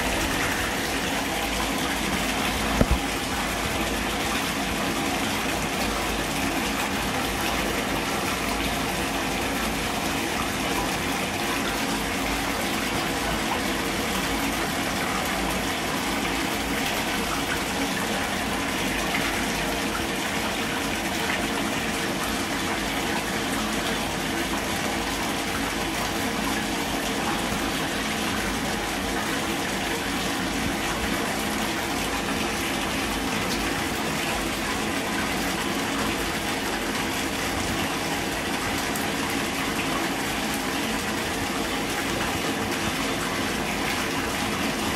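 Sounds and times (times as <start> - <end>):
water running into bathtub: 0.0 - 44.9.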